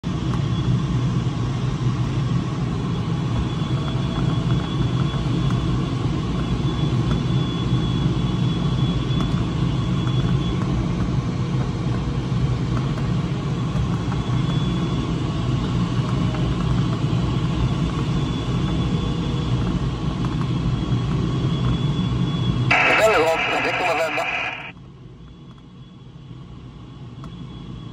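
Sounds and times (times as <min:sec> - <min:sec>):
airflow rumble in cockpit: 0:00.0 - 0:25.4.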